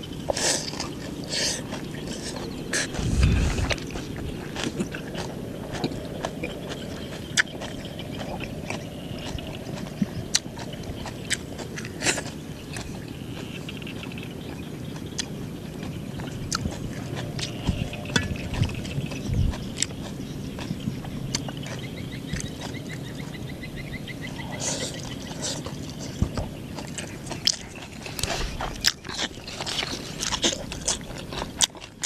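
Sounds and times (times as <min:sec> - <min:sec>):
chewing and biting food: 0:00.0 - 0:32.0.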